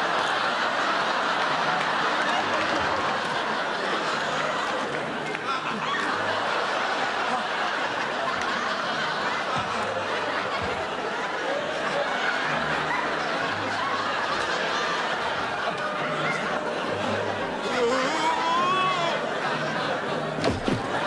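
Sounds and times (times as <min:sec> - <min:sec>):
audience laughing: 0:00.0 - 0:21.0.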